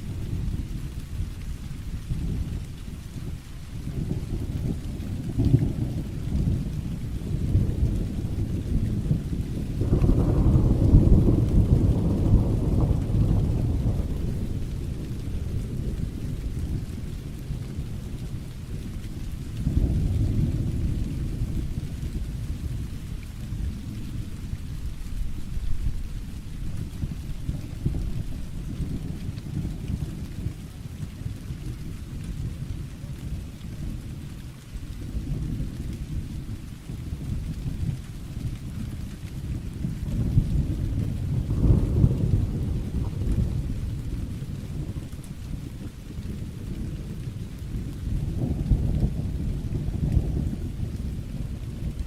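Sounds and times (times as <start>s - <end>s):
low thunder rumble: 0.0s - 52.0s
steady rain: 0.0s - 52.0s.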